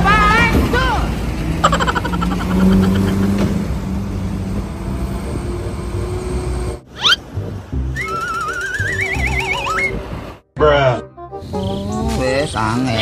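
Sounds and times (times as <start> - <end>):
heavy vehicle engine rumbling: 0.0 - 10.5.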